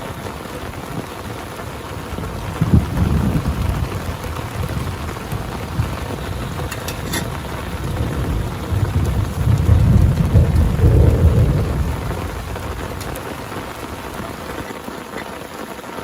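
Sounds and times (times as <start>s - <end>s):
low thunder rumbling: 0.0s - 14.6s
heavy rain falling: 0.0s - 16.0s.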